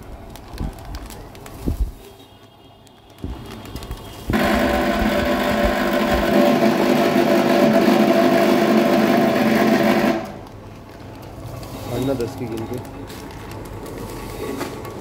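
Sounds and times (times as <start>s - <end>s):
packing machine humming and whirring: 0.0s - 15.0s.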